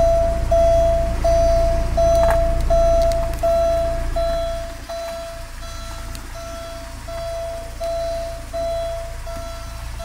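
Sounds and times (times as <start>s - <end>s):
car warning chime beeping: 0.0s - 10.0s
low steady rumble: 0.0s - 10.0s.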